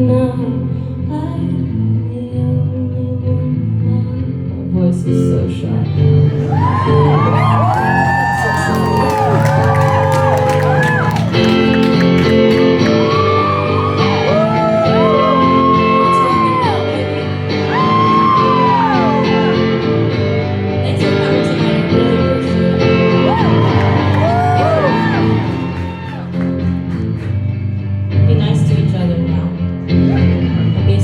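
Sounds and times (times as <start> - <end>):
guitar chords: 0.0 - 31.0.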